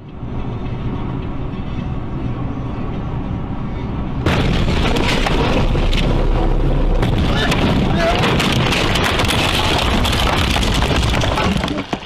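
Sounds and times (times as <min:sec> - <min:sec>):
vehicle road and engine rumble: 0:00.0 - 0:12.0.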